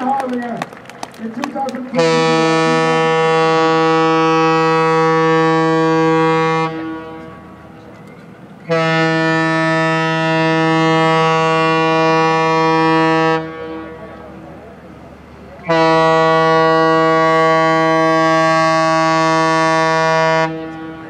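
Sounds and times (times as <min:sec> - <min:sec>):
ship's horn blasts: 0:01.8 - 0:07.9, 0:08.6 - 0:14.5, 0:15.1 - 0:21.0.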